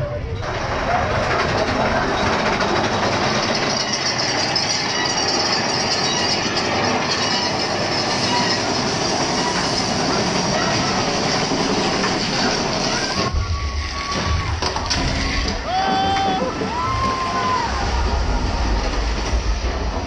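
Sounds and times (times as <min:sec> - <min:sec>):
roller coaster wheels rattling: 0:00.0 - 0:20.0.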